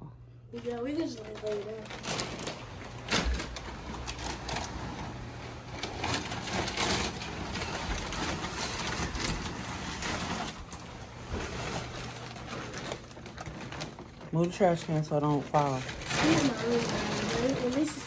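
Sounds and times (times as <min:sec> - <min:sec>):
rustling and scraping handling: 0:00.6 - 0:18.0.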